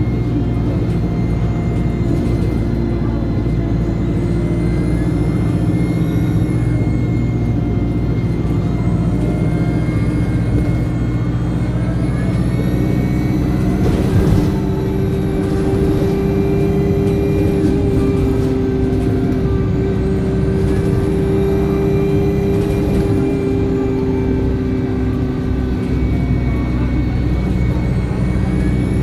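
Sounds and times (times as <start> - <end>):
bus engine running: 0.0 - 29.0
turbocharger whine: 0.0 - 29.0.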